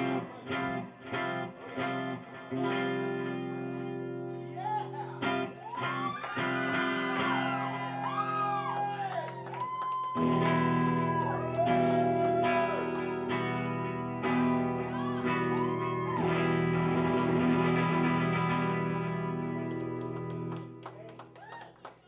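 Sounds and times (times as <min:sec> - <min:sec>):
electric guitar chords and bends: 0:00.0 - 0:20.9.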